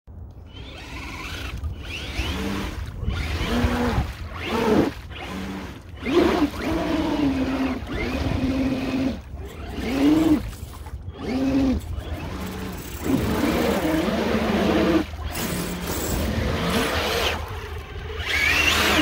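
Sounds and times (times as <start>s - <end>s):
toy truck motors whining: 0.4s - 19.0s
trucks churning through muddy water: 0.5s - 19.0s.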